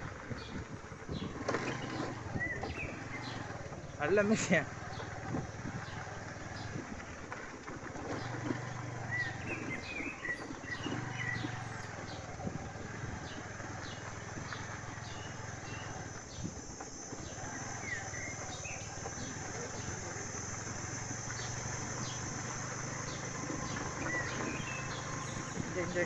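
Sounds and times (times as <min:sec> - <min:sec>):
birds chirping: 0:00.0 - 0:26.0
motorcycle engine at low speed: 0:00.0 - 0:26.0.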